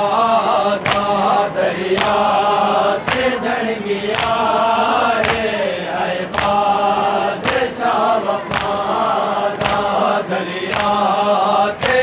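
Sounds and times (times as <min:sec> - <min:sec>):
men chanting together: 0:00.0 - 0:12.0
hands slapping chests in unison: 0:00.6 - 0:12.0.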